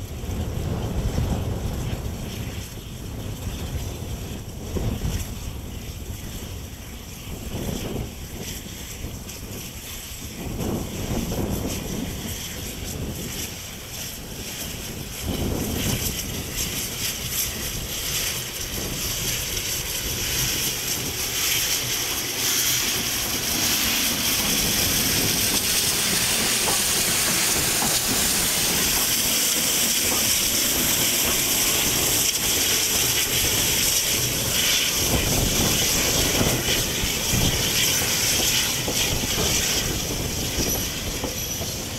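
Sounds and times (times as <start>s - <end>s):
steam locomotive exhaust puffs: 0.0s - 41.9s
loud hiss of escaping steam: 5.8s - 41.9s.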